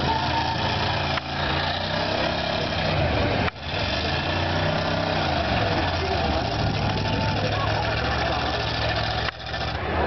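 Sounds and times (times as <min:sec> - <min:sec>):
car engines running under load: 0:00.0 - 0:10.0
tyres spinning: 0:00.0 - 0:10.0.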